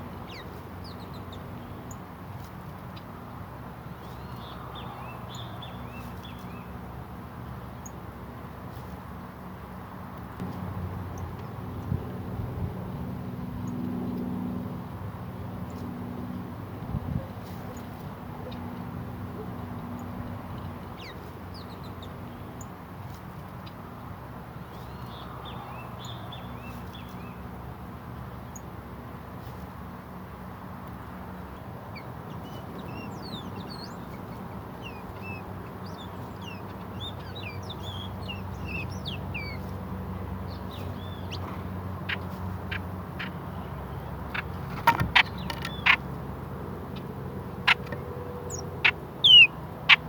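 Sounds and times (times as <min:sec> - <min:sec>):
songbirds chirping: 0:00.0 - 0:10.5, 0:17.4 - 0:50.0.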